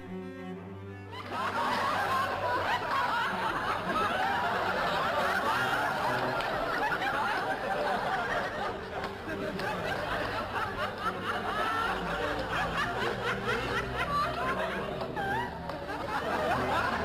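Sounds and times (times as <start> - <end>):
audience laughing: 1.1 - 17.0.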